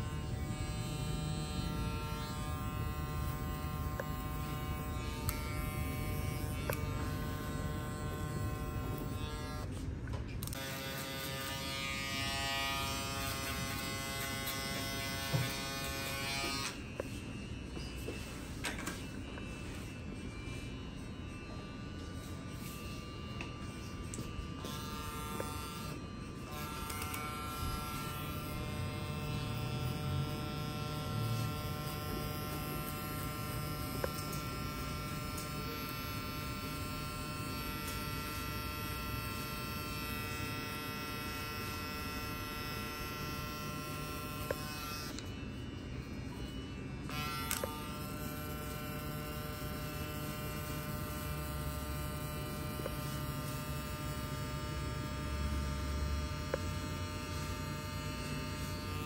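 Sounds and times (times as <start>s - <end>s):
electric hair clipper buzzing: 0.0s - 17.2s, 20.9s - 59.0s.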